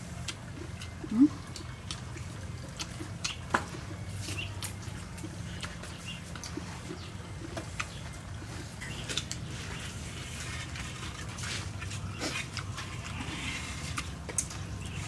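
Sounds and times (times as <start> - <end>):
crunchy chewing: 0.0 - 15.0
steady low hum: 0.0 - 15.0.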